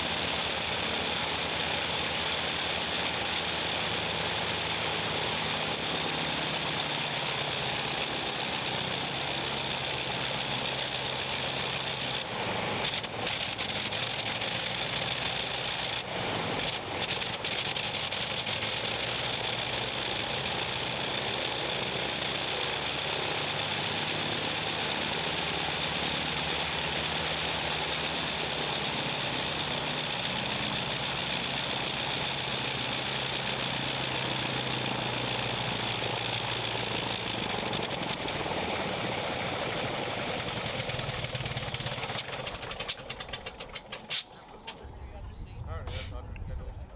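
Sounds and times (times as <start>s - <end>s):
rotary aircraft engine running: 0.0s - 46.9s.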